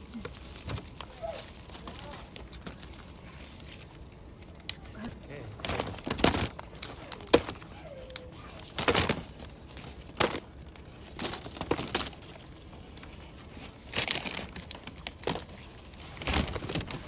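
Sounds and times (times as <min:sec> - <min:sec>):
branches and bags rustling: 0:00.0 - 0:17.0.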